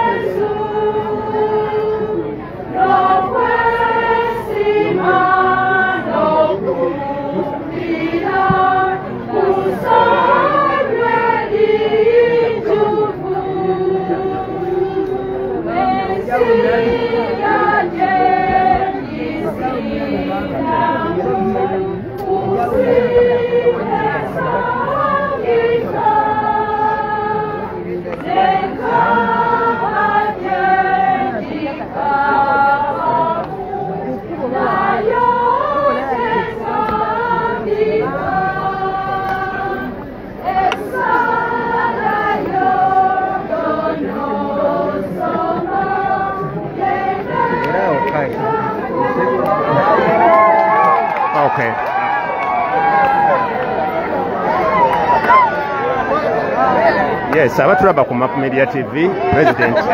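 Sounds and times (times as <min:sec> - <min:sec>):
choir singing a hymn: 0:00.0 - 0:51.2, 0:52.4 - 0:59.9.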